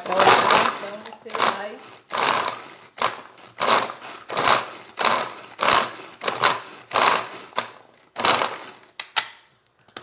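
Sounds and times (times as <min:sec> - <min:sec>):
pull-cord chopper whirring: 0:00.0 - 0:09.0.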